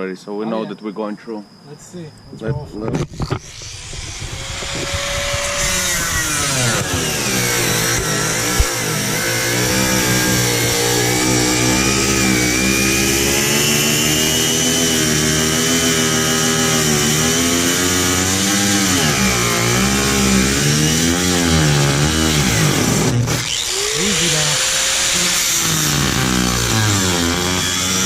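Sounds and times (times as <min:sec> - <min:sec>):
angle grinder cutting metal sheet: 0:02.7 - 0:28.0.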